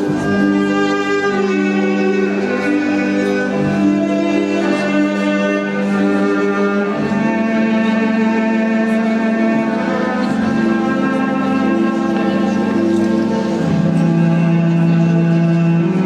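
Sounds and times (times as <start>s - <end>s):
violin and cello melody: 0.0s - 16.0s.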